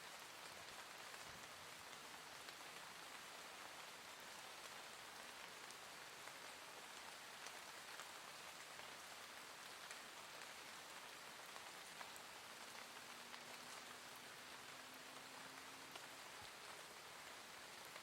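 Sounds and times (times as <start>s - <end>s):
soft rain falling: 0.0s - 18.0s.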